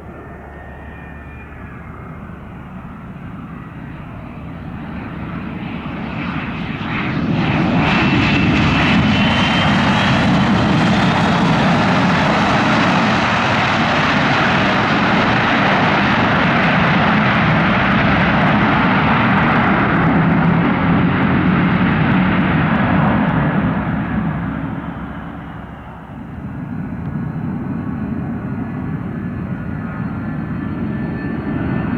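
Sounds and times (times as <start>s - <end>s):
aircraft engine noise: 0.0s - 31.9s.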